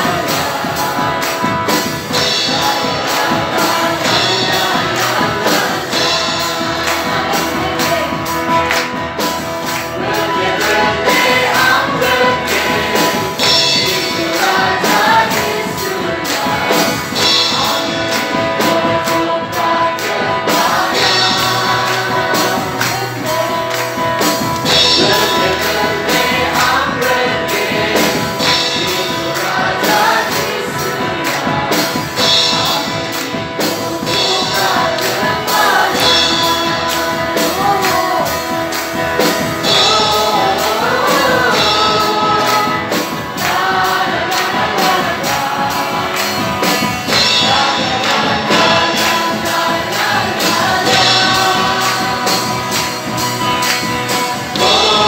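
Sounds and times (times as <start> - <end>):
acoustic guitar: 0.0 - 55.0
group of singers: 0.0 - 55.0
keyboard: 0.0 - 55.0
steady percussive beat: 0.0 - 55.0.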